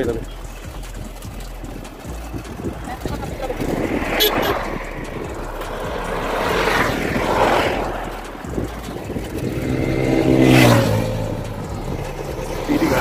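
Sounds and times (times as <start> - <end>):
road rumble: 0.0 - 13.0
vehicles passing on highway: 0.0 - 13.0
wind: 0.0 - 13.0.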